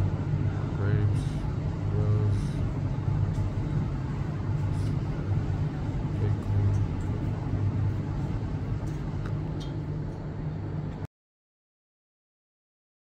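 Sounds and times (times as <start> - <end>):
low motor rumble: 0.0 - 11.1.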